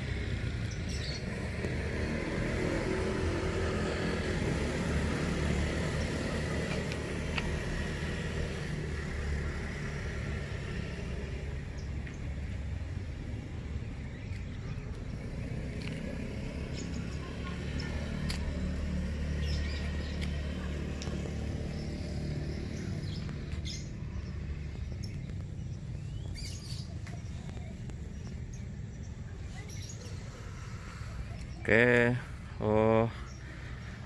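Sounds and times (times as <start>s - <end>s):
birds chirping: 0.0s - 34.0s
low engine droning: 0.0s - 34.0s.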